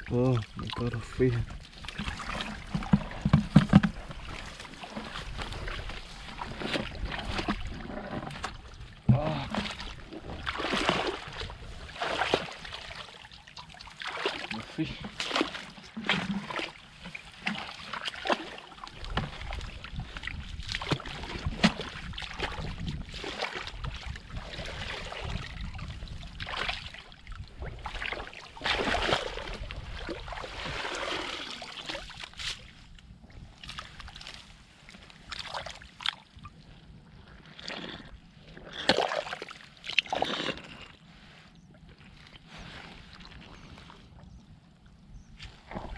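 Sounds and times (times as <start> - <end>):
muddy water splashing: 0.0 - 44.5, 45.3 - 45.9.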